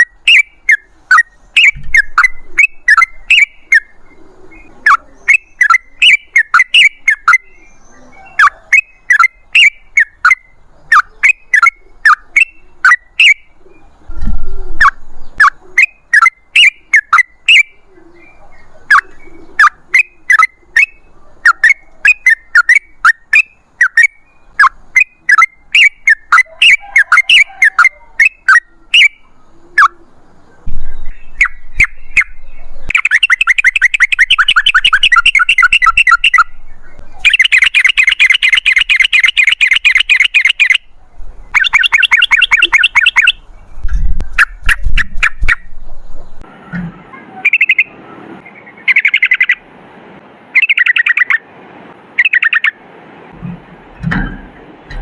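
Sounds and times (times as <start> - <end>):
bird chattering song: 0.0 - 46.5, 47.1 - 49.6, 50.6 - 51.4, 52.2 - 52.8.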